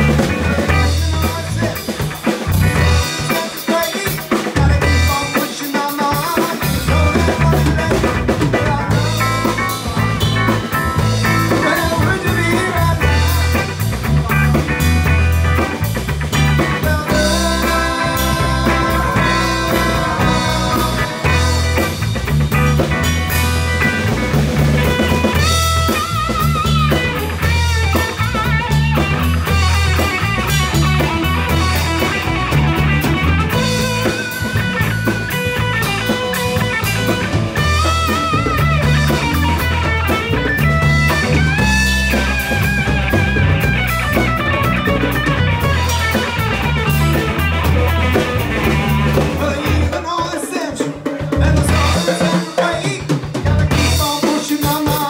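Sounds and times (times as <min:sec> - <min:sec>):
electric bass: 0:00.0 - 0:05.4, 0:06.2 - 0:50.1, 0:51.3 - 0:52.4, 0:53.2 - 0:55.0
drum kit: 0:00.0 - 0:55.0
guitar: 0:00.0 - 0:55.0
keyboard: 0:00.0 - 0:55.0.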